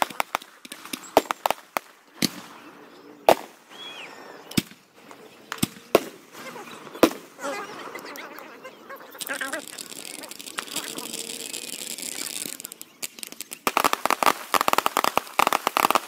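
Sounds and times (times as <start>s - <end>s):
fireworks bangs: 0.0s - 8.5s, 9.1s - 16.0s.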